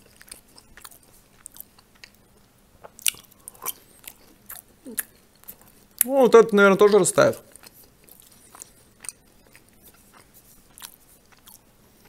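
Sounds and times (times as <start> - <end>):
person chewing: 0.0 - 6.1, 7.4 - 12.0.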